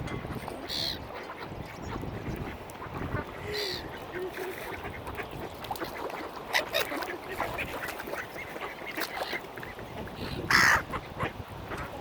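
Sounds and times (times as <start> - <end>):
ducks quacking: 0.1 - 12.0.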